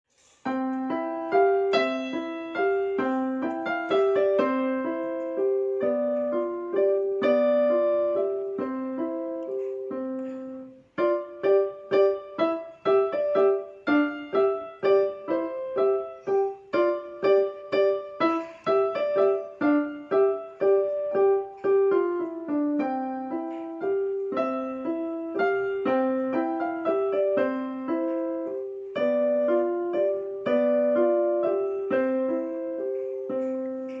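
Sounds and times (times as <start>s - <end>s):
piano melody: 0.1s - 34.0s.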